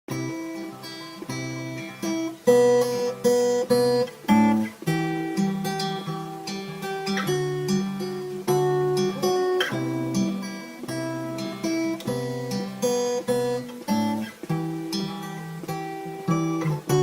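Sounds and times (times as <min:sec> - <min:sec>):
guitar playing chords: 0:00.1 - 0:17.0.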